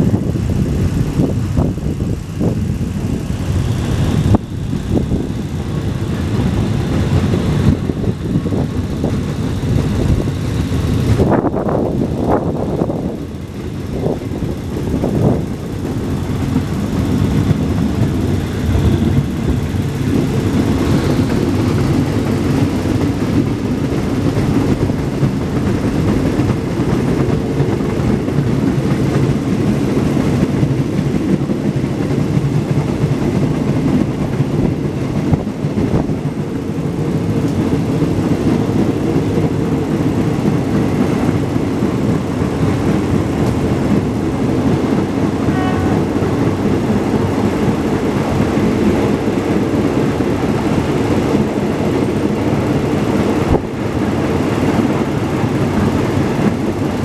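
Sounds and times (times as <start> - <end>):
train engine and wheels rumbling: 0.0 - 57.0.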